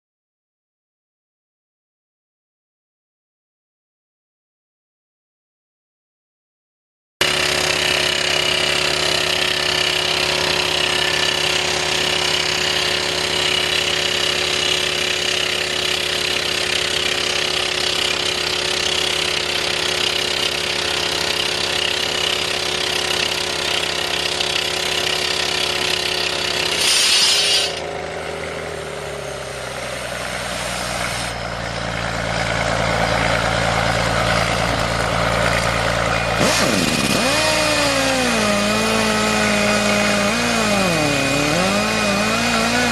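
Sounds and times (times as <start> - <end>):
drill engine running: 7.2 - 42.9.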